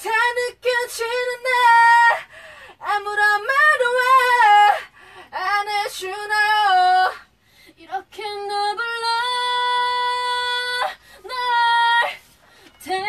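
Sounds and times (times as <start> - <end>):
person singing a cappella: 0.0 - 13.0.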